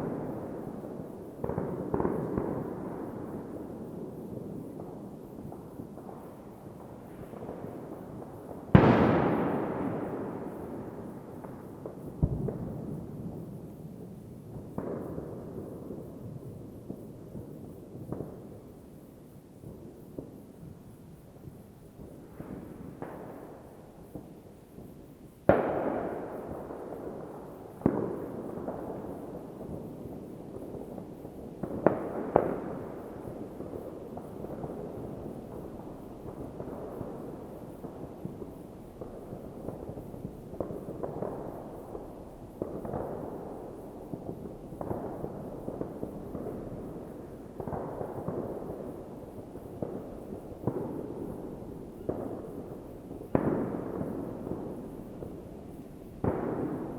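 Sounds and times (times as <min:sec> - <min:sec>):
distant fireworks bangs: 0:00.0 - 0:56.9.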